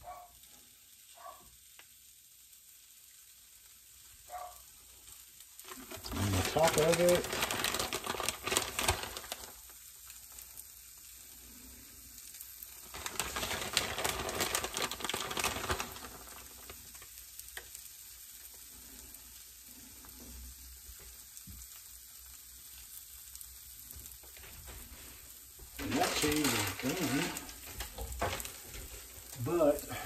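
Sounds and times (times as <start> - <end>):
food sizzling on hot plates: 0.0 - 30.0
crackling: 1.1 - 30.0.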